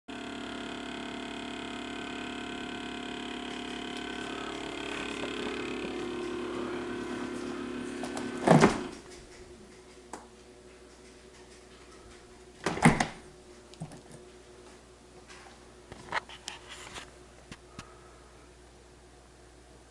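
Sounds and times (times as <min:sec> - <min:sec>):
refrigerator humming: 0:00.1 - 0:19.9.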